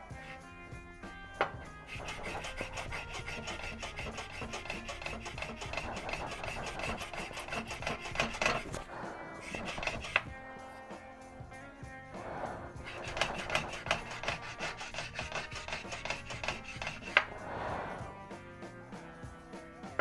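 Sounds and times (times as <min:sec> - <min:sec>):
file scraping strokes: 0:00.0 - 0:11.1, 0:12.1 - 0:19.1.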